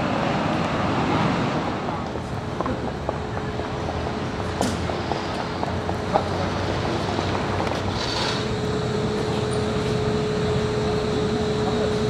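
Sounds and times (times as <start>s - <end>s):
subway train rumbling slowly: 0.0s - 12.0s
steady hum: 1.5s - 12.0s.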